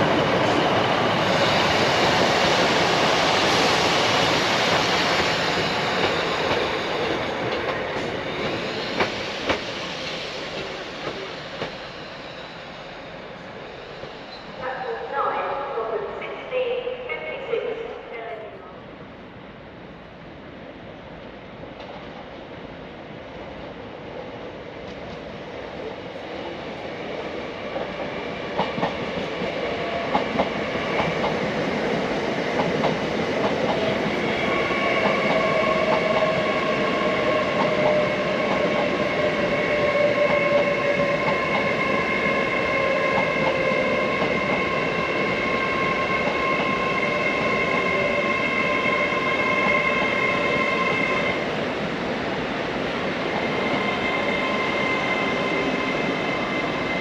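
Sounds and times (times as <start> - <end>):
train running through station: 0.0 - 57.0.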